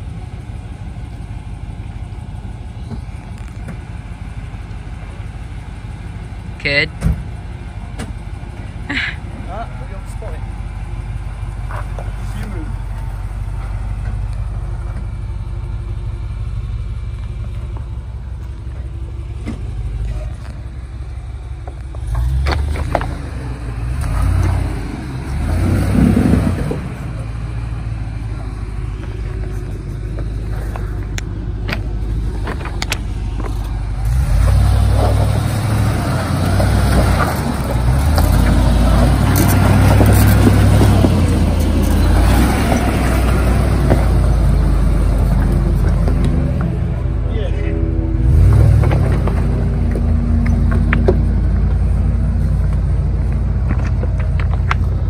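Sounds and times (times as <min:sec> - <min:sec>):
engine running at low speed: 0:00.0 - 0:55.0.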